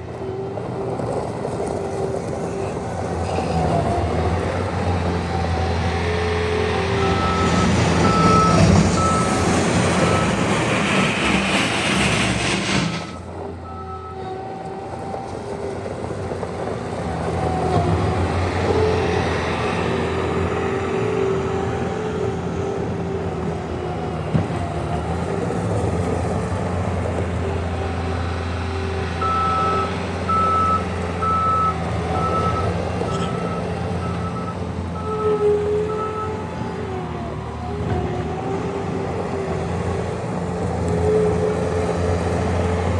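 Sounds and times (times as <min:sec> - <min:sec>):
diesel loader engine running: 0:00.0 - 0:42.9.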